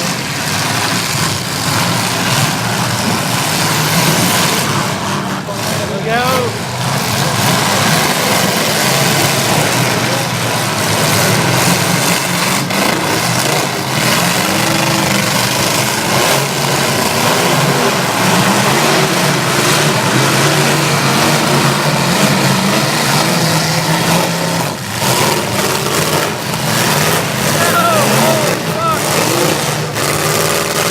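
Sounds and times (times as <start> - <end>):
truck engines revving hard: 0.0 - 30.9.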